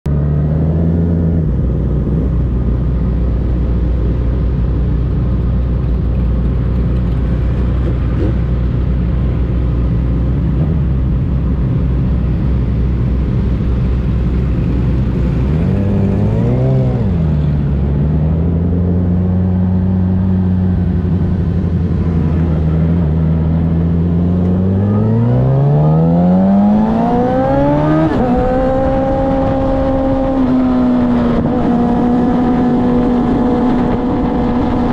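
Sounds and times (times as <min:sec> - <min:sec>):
motorcycle engine: 0:00.1 - 0:34.9.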